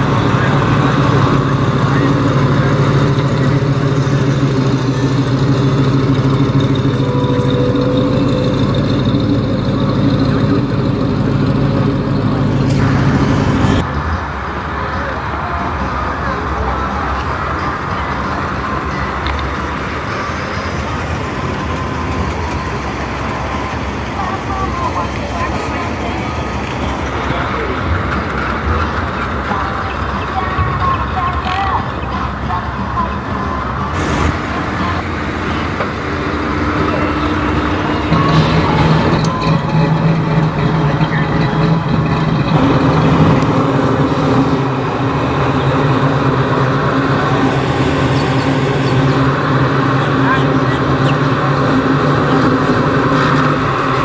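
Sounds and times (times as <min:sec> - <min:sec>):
car engine running: 0:00.0 - 0:54.0
low vehicle rumble: 0:00.0 - 0:54.0.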